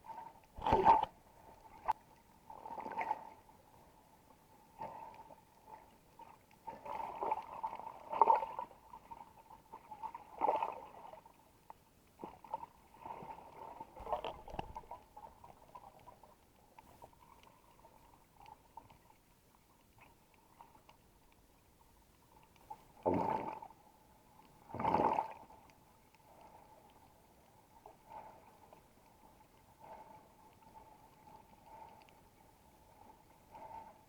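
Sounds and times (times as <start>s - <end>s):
water sloshing and gurgling: 0.0s - 34.0s.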